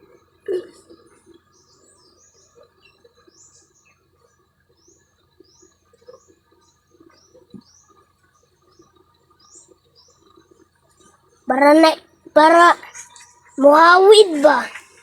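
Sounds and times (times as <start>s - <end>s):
small bird chirping: 0.6s - 15.0s.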